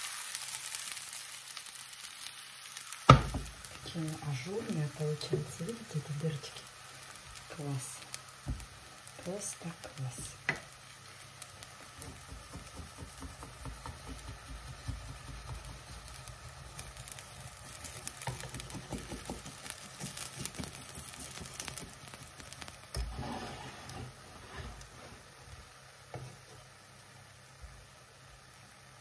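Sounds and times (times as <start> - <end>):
batter sizzling in frying pan: 0.0 - 29.0.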